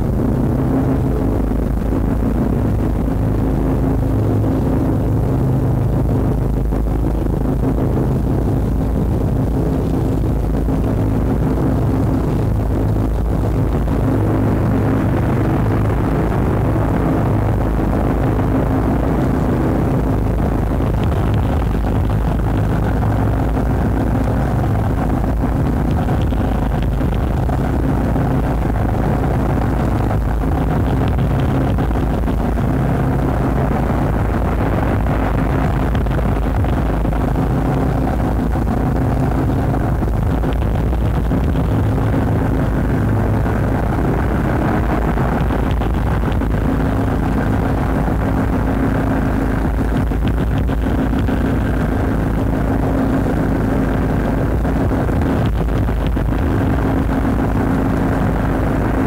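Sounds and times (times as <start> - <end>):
droning industrial noise music: 0.0 - 59.0
low rumble: 0.0 - 59.0.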